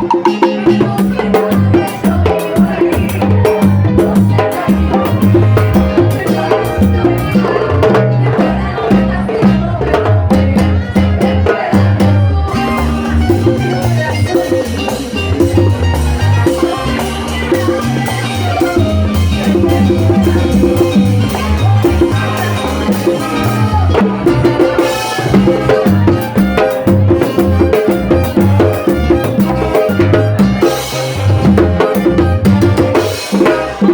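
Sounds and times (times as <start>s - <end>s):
drum and timbales strokes: 0.0s - 33.9s
latin dance band playing: 0.0s - 33.9s.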